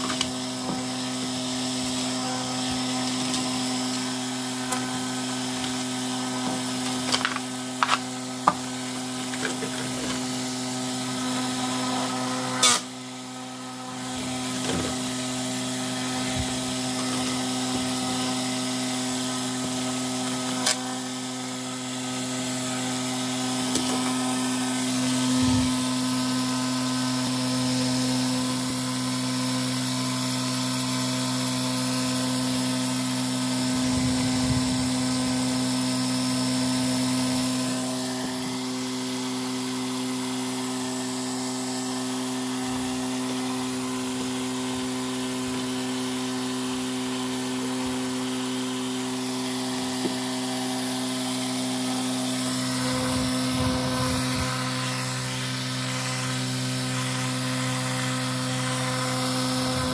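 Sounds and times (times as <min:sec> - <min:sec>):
small electric motor whining: 0:00.0 - 0:59.9.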